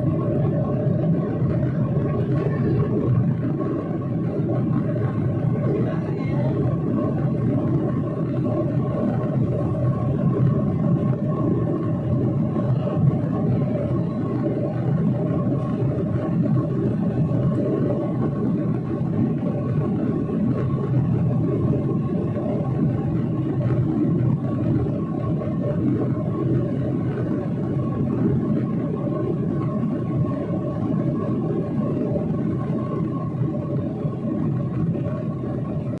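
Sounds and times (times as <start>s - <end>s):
airplane engines rumbling: 0.0s - 36.0s
faint steady whine: 0.0s - 36.0s
steady hum: 0.0s - 36.0s.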